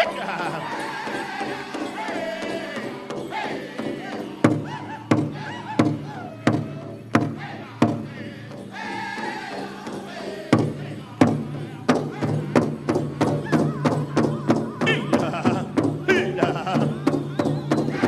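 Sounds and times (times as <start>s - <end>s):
big drum beats: 0.0s - 8.8s, 9.5s - 18.0s
group singing: 0.0s - 18.0s.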